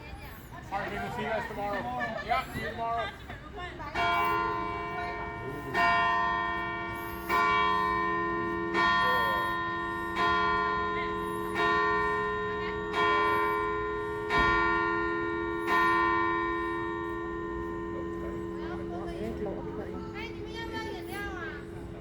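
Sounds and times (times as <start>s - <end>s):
church bell tolling: 3.9s - 22.0s.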